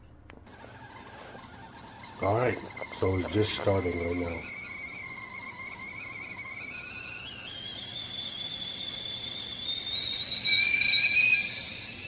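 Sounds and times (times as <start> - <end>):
kettle whistling: 0.5 - 12.0.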